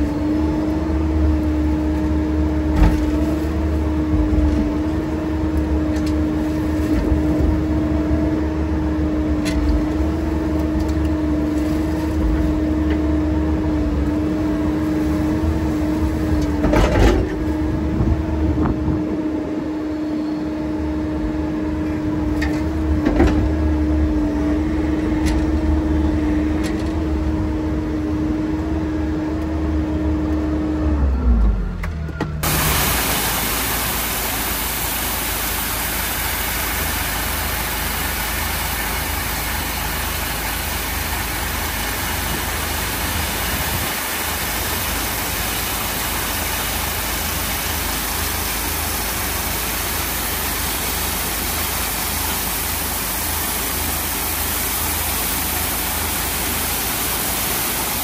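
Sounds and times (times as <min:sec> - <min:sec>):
heavy equipment engine running: 0:00.0 - 0:58.0.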